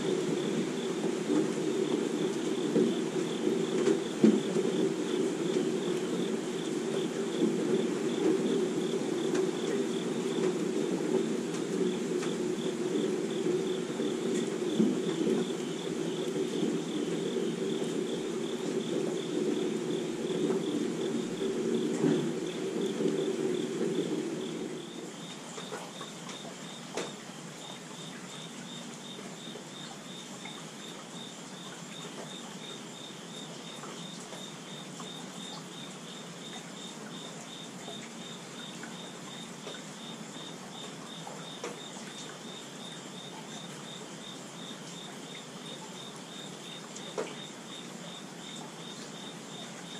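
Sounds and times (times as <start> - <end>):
insects chirping: 0.0 - 49.9
steady rainfall: 0.0 - 49.9.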